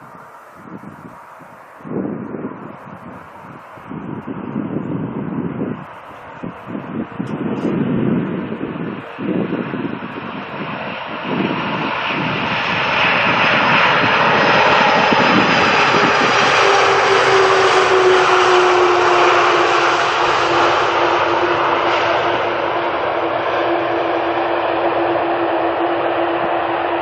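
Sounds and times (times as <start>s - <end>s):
engine whining tone: 0.0s - 27.0s
jet airliner passing overhead: 0.0s - 27.0s
wind buffeting microphone: 0.0s - 27.0s.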